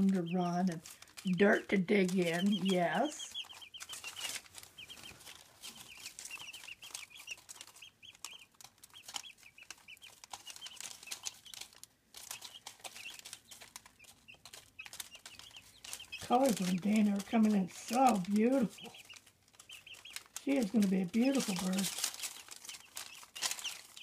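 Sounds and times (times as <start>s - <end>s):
chicks peeping: 0.0s - 24.0s
chicks scratching on paper: 0.0s - 24.0s.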